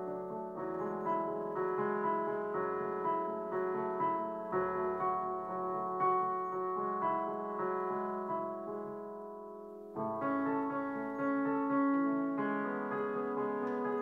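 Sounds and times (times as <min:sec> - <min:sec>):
digital piano chords: 0:00.0 - 0:14.0.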